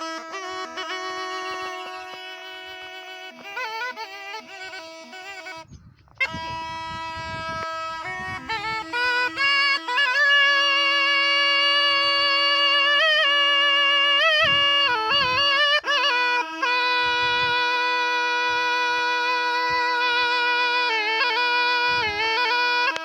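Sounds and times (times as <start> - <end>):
reed pipe drone and melody: 0.0 - 23.0.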